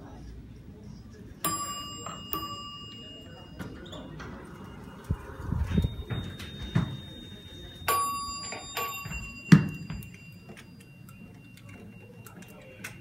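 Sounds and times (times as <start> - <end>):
electronic elevator chime: 1.5 - 13.0.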